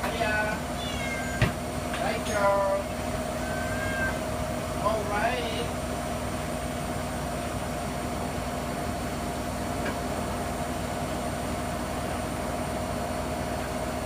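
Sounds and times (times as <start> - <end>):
washer dryer running: 0.0 - 14.0.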